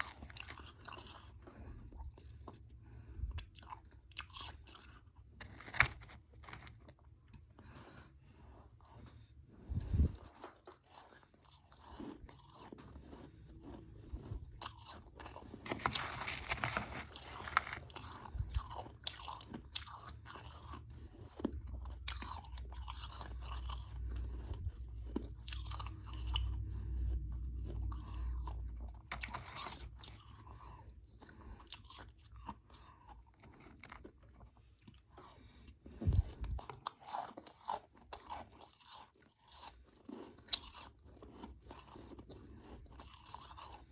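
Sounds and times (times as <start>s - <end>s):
chewing crunchy ice: 0.0s - 2.7s, 3.4s - 43.9s.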